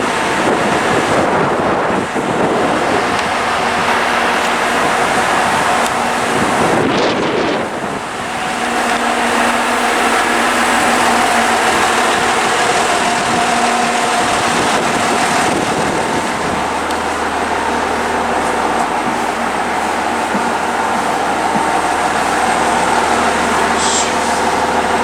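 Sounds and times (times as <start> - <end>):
constant hum: 0.0 - 25.0
vehicle running noise: 0.0 - 25.0.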